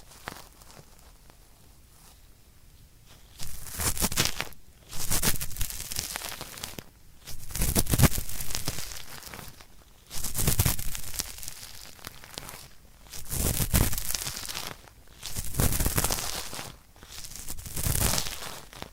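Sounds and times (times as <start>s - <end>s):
cotton swab scraping in ear: 3.1s - 18.9s.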